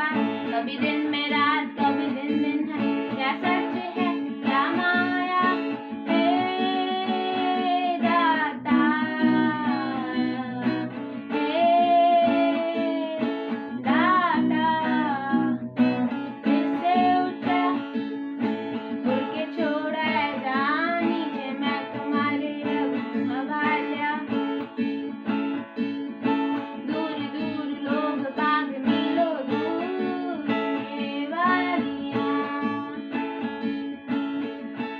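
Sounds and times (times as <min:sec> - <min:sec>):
person singing: 0:00.0 - 0:24.8, 0:26.4 - 0:33.4
acoustic guitar: 0:00.0 - 0:34.9.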